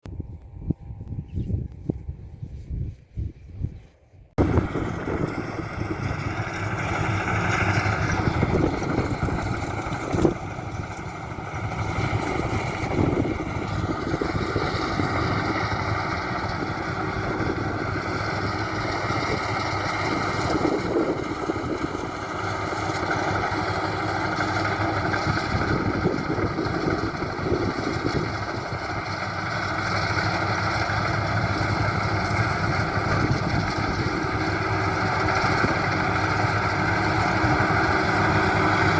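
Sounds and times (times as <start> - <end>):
combine harvester running: 4.4 - 38.9.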